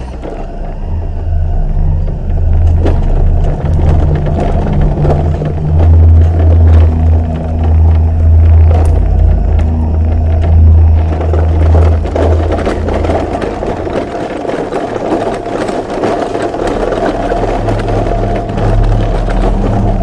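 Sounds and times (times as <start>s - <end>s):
grinding rumble: 0.0s - 20.0s
low droning hum: 0.0s - 20.0s.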